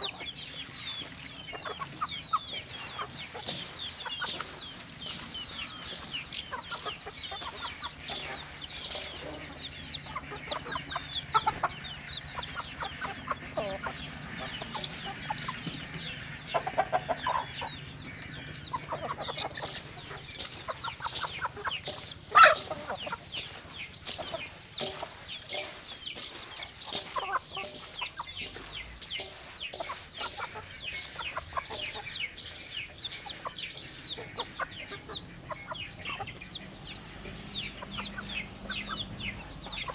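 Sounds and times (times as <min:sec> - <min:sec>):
chickens clucking: 0:00.0 - 0:39.9
high chick peeps: 0:00.0 - 0:39.9.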